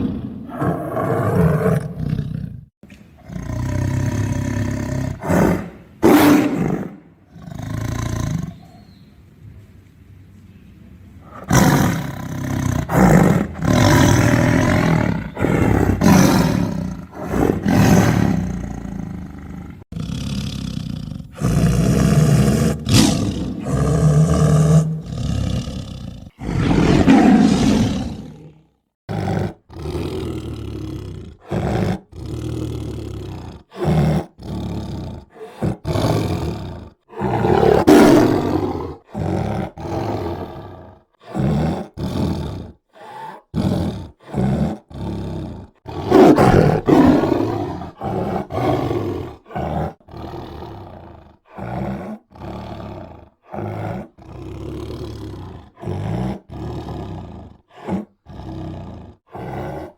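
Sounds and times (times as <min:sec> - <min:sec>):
tiger roaring and growling: 0:00.0 - 0:08.8, 0:11.2 - 0:59.9.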